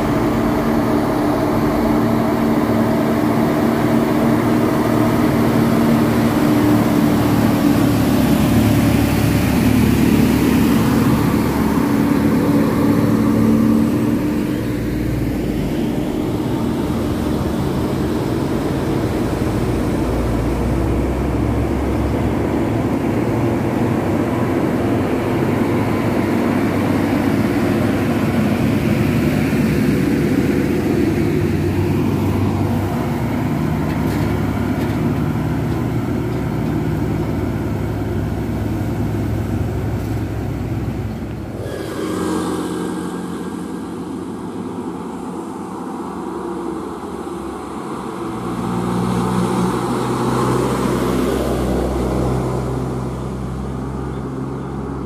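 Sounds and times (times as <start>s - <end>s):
diesel truck engine approaching: 0.0s - 55.0s
heavy diesel trucks passing: 0.0s - 55.0s.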